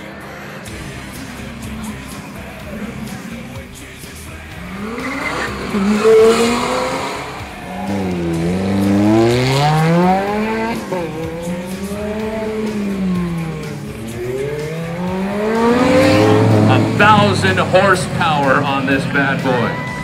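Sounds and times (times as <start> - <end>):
car engine revving passing by: 0.0 - 20.0.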